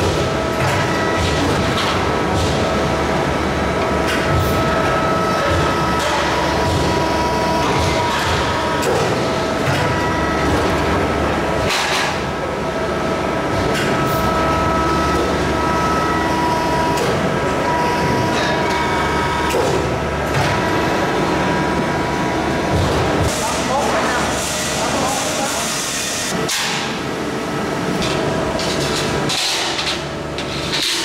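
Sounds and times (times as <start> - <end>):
press brake machine whine: 0.0 - 31.0.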